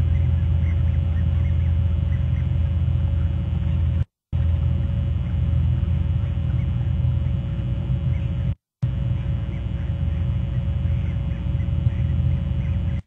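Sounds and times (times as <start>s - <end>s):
faint bird calls: 0.0s - 4.0s, 5.0s - 13.0s
faint steady hum: 0.0s - 13.0s
low outdoor rumble: 0.0s - 13.0s.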